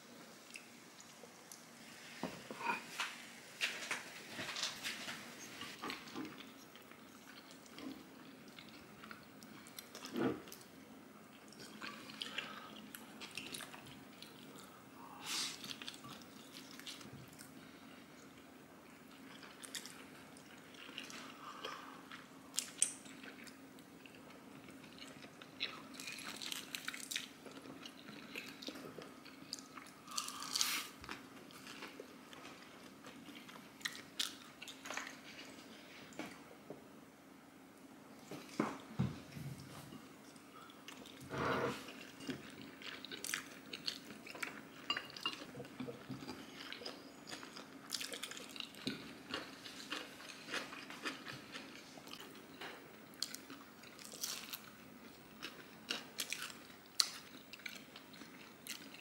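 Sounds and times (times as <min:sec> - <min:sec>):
faint steady hum: 0:00.0 - 0:59.0
soft chewing: 0:02.5 - 0:36.8, 0:38.2 - 0:59.0.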